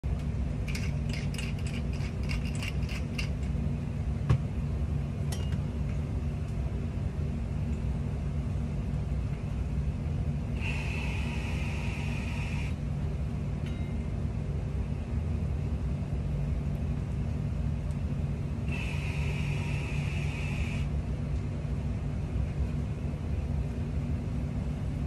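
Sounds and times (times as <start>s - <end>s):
low kitchen hum: 0.0s - 25.0s.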